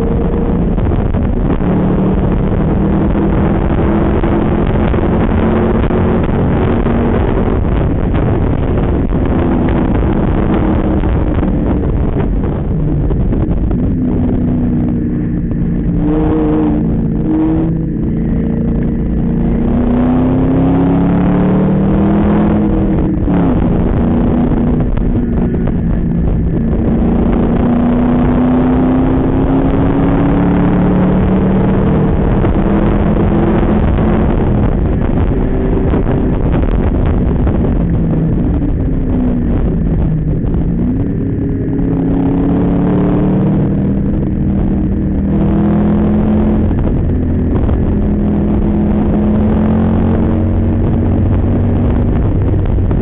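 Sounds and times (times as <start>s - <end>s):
car engine shifting gears: 0.0s - 53.0s.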